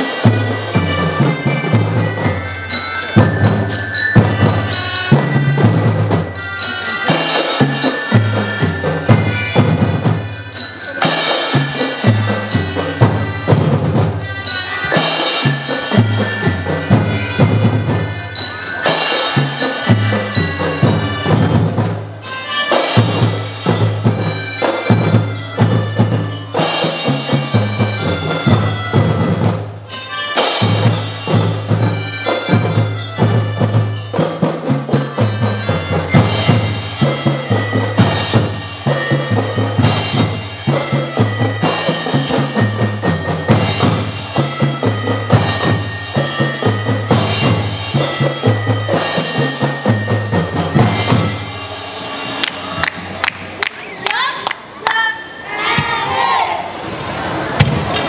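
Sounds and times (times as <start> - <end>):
marching drums beating: 0.0 - 29.9, 30.6 - 54.3
bright ringing melody: 0.0 - 52.4.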